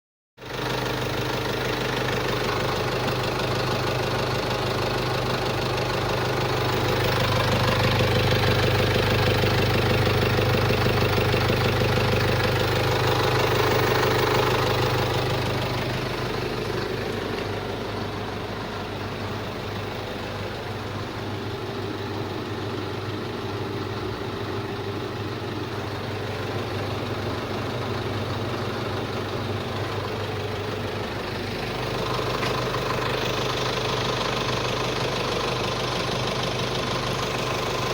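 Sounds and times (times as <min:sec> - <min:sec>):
car engine idling: 0:00.4 - 0:37.9.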